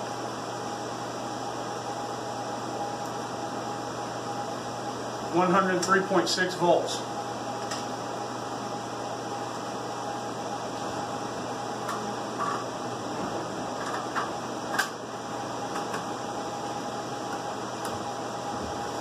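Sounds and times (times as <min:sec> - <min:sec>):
equipment fan hum: 0:00.0 - 0:19.0.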